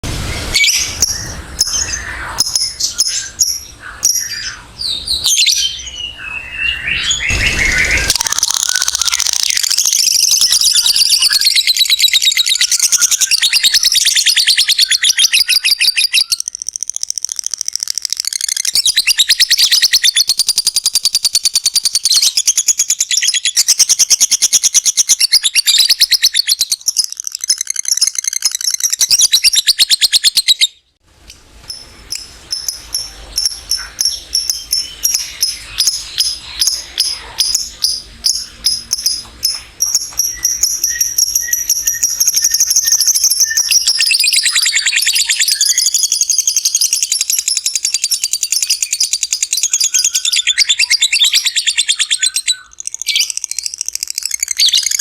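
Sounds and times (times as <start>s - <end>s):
lovebird chirping and trilling: 0.4s - 30.9s, 31.6s - 55.0s.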